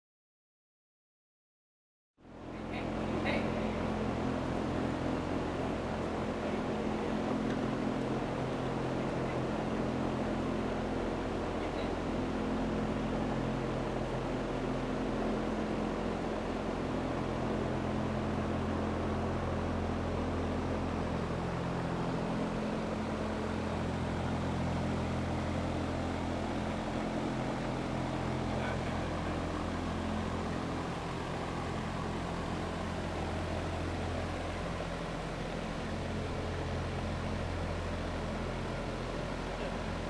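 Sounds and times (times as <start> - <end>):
low mechanical drone: 2.2 - 40.0.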